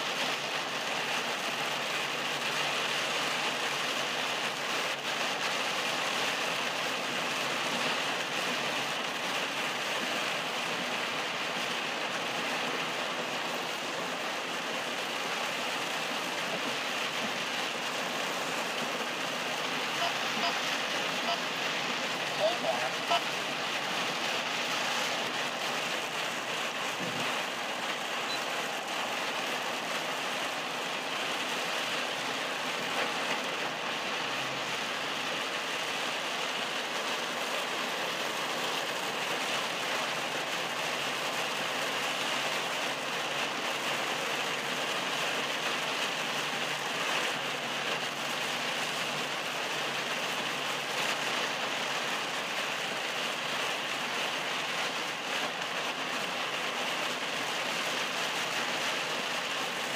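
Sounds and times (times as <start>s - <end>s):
heavy rain on car windshield: 0.0s - 59.9s.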